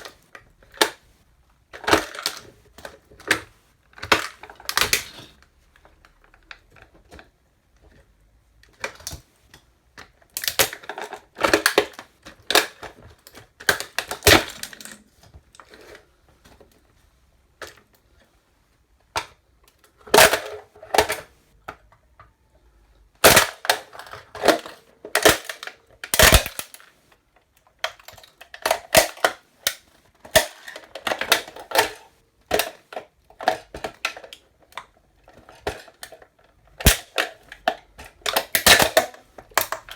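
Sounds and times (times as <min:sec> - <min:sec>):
plastic toy cracking and snapping: 0:00.0 - 0:01.0, 0:01.7 - 0:05.4, 0:08.6 - 0:16.0, 0:19.0 - 0:22.4, 0:23.2 - 0:39.9.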